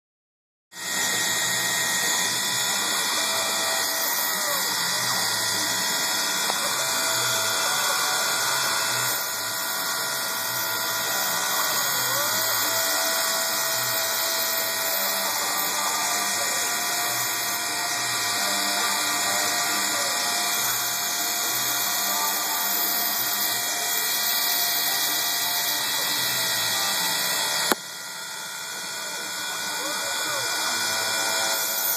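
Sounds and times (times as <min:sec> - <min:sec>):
milling machine whine and hiss: 0:00.8 - 0:31.9.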